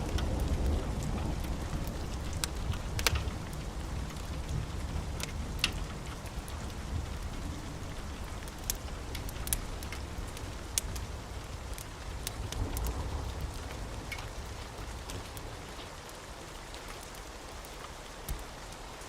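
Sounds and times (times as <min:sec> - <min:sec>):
fire rumbling: 0:00.0 - 0:18.8
fire crackling and popping: 0:00.0 - 0:19.0.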